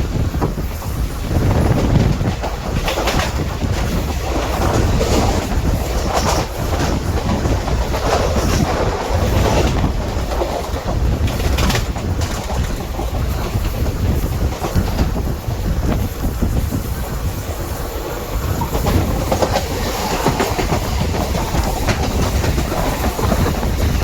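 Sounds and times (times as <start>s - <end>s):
passenger train rumbling on track: 0.0s - 24.0s
train wheels clattering: 0.0s - 24.0s.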